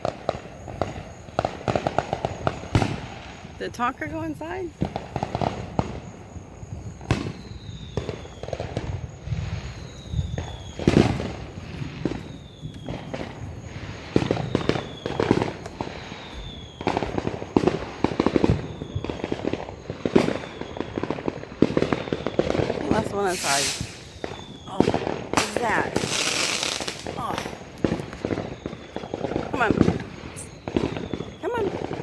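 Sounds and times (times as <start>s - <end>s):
firecracker crackling: 0.0s - 32.0s
fireworks bangs: 0.0s - 32.0s.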